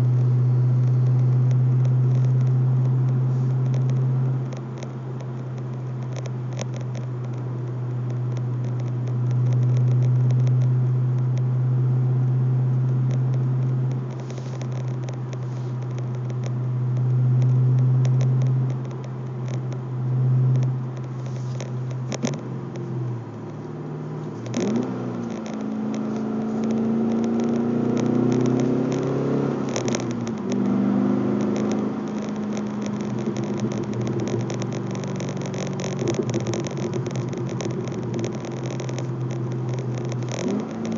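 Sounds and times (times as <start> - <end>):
car engine accelerating: 0.0 - 40.9
car exhaust drone: 0.0 - 40.9.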